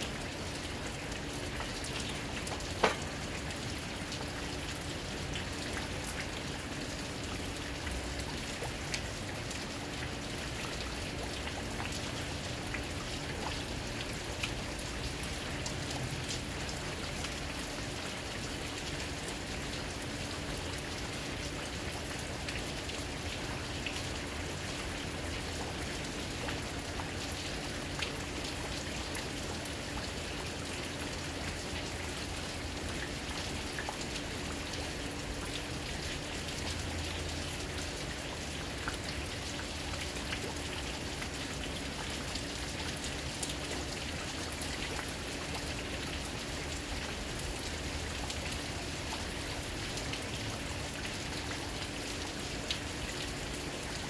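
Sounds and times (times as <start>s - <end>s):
raindrop ticks and splashes: 0.0s - 54.0s
steady rain hiss: 0.0s - 54.0s.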